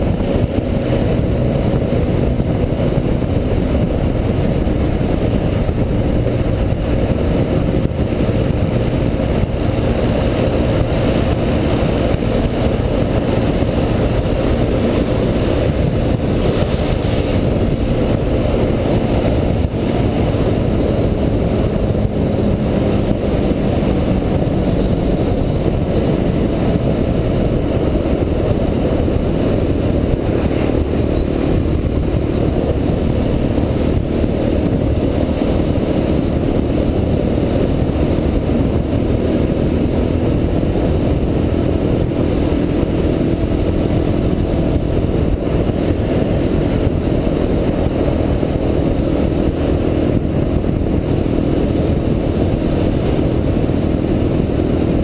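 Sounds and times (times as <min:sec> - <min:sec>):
quad bike engine running: 0:00.0 - 0:55.0
wind and road noise: 0:00.0 - 0:55.0.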